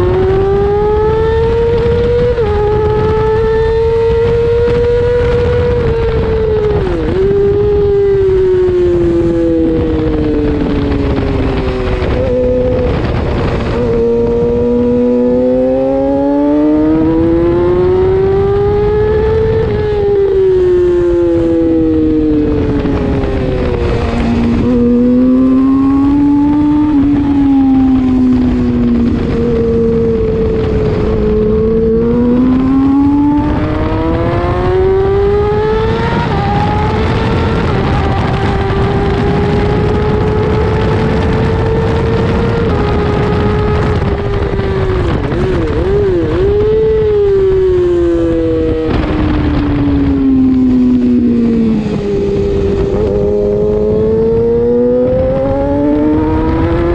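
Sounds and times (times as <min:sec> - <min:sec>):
motorcycle engine revving: 0:00.0 - 0:56.9
wind rush: 0:00.0 - 0:56.9.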